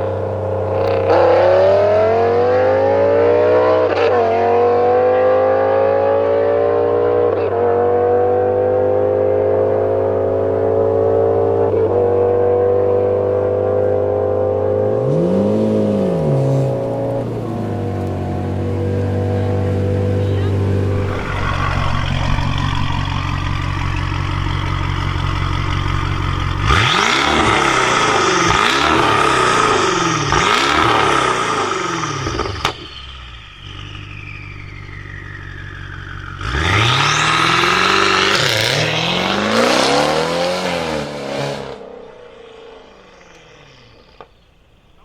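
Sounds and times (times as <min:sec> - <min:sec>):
car engine idling and revving: 0:00.0 - 0:45.0.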